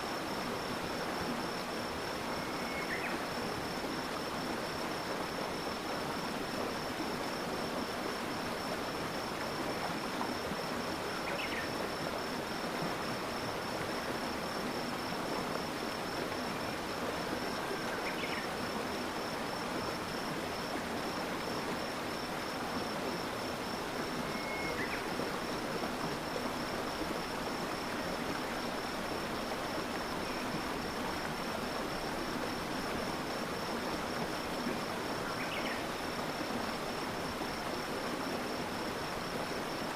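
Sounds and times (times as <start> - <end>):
flowing stream: 0.0 - 39.9
insect trill: 0.1 - 6.6, 7.2 - 16.8, 17.4 - 39.9.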